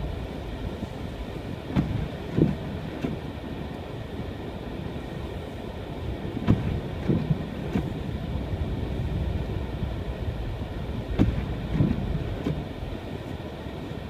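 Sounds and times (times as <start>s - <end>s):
car tyres rumbling on snow: 0.0s - 14.0s.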